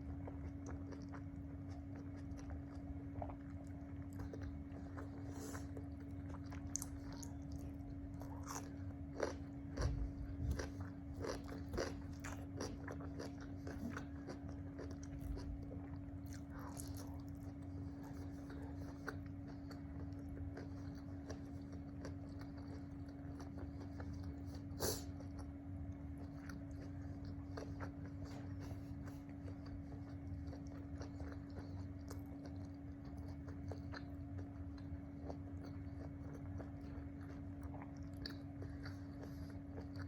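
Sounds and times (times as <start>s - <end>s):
person chewing crunchy food: 0.0s - 40.0s
steady low hum: 0.0s - 40.0s.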